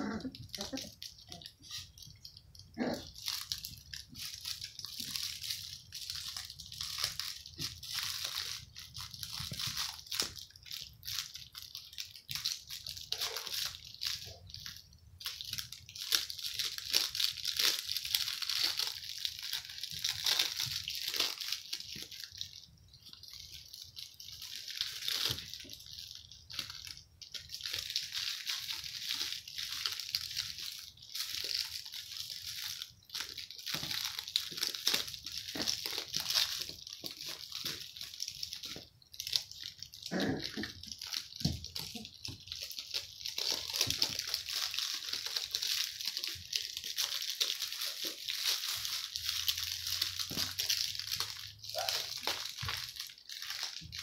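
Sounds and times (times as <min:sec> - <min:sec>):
puppies chewing plush toy: 0:00.0 - 0:54.0.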